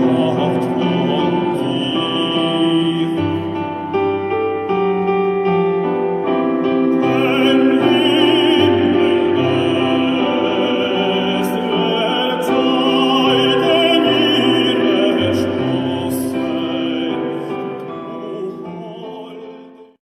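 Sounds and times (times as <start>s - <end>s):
operatic baritone singing: 0.0s - 4.8s, 5.9s - 20.0s
piano chords: 0.0s - 20.0s.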